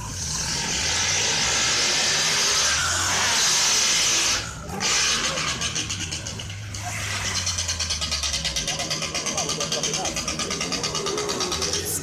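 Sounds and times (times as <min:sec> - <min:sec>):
car engine at high revs: 0:00.0 - 0:12.0
spinning tyres hissing: 0:00.0 - 0:12.0.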